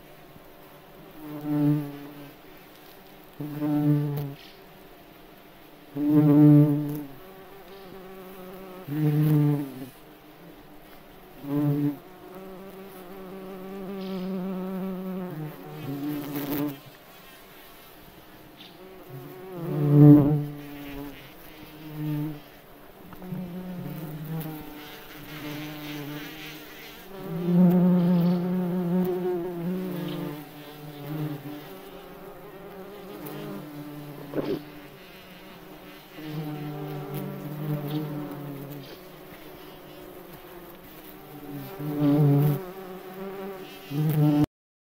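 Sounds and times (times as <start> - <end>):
bumblebees buzzing in flight: 0.0 - 44.5.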